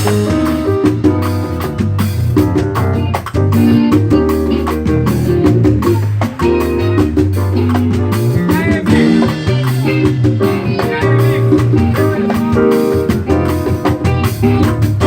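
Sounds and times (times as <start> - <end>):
bending lead guitar line: 0.0 - 15.0
live band instrumental groove: 0.0 - 15.0.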